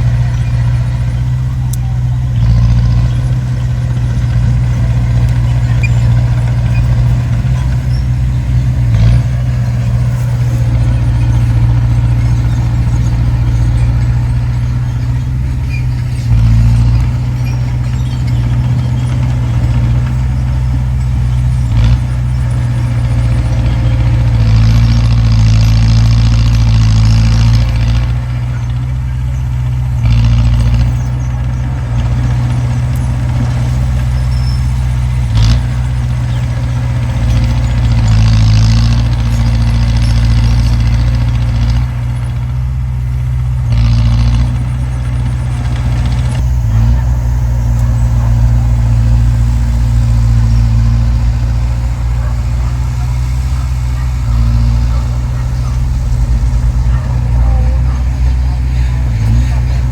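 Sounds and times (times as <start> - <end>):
heavy diesel machinery drone: 0.0 - 59.9.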